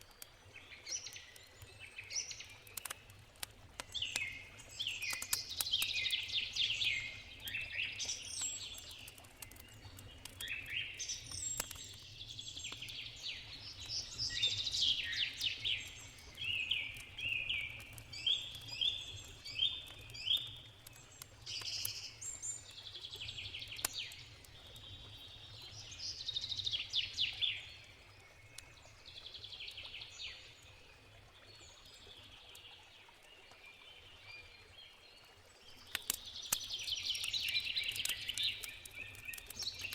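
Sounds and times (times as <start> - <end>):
campfire crackles: 0.0 - 39.9
songbirds chirping and trilling: 0.1 - 39.9.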